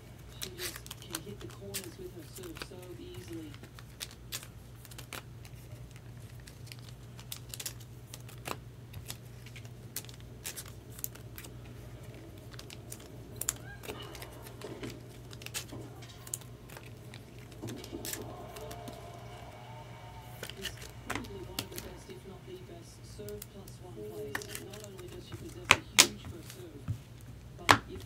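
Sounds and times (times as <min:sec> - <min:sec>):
plastic sleeves clicking and crinkling: 0:00.0 - 0:19.4, 0:23.1 - 0:28.0
steady low hum: 0:00.0 - 0:28.0.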